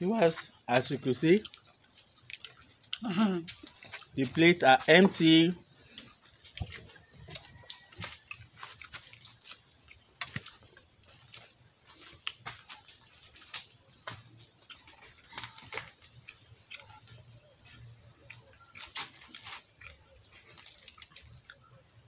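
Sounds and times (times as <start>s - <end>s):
lip smacks while eating: 1.4s - 4.2s, 5.8s - 21.7s.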